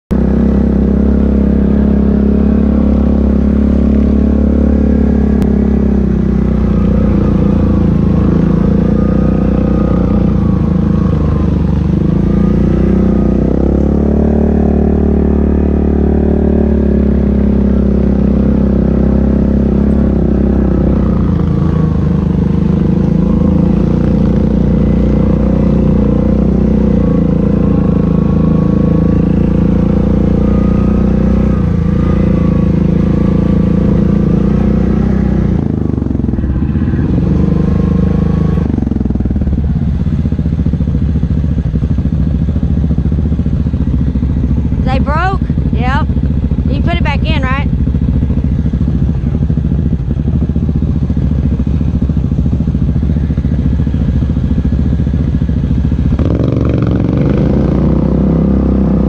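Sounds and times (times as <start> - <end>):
quad bike engine running: 0.1 - 59.0.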